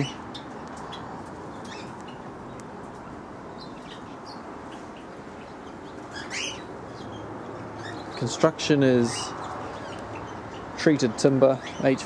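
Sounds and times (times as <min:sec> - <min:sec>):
birds chirping: 0:00.0 - 0:12.0
steady background hiss: 0:00.0 - 0:12.0.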